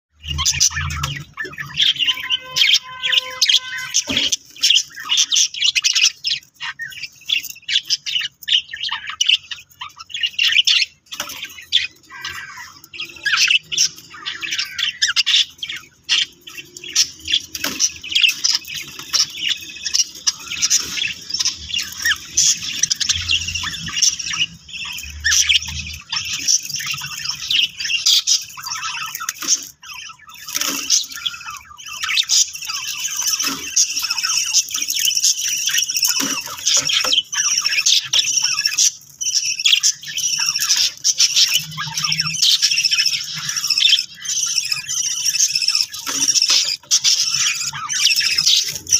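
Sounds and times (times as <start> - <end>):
budgie chicks begging calls: 0.2 - 48.9.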